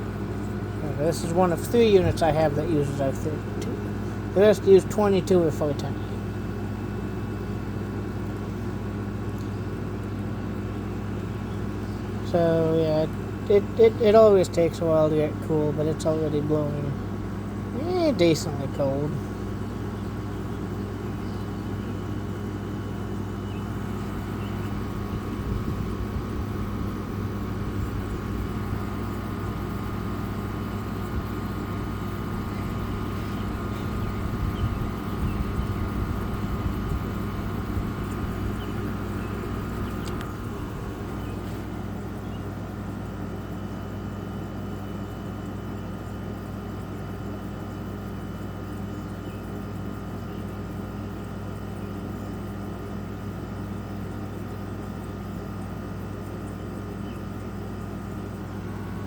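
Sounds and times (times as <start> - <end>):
air conditioner hum: 0.0 - 59.0.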